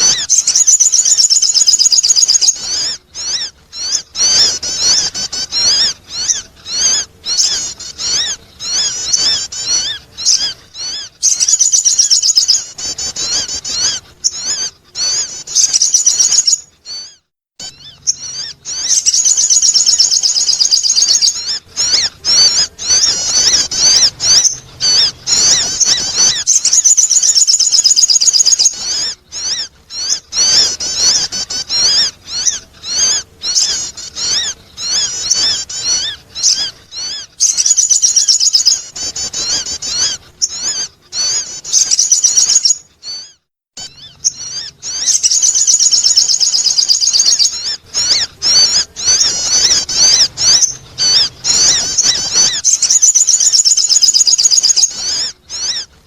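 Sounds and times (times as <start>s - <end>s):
bird twittering chatter: 0.0s - 56.0s.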